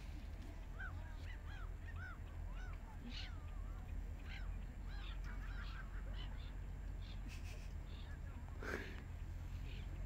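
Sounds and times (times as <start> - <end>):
steady low rumble: 0.0 - 10.0
waterbird calling: 0.0 - 10.0.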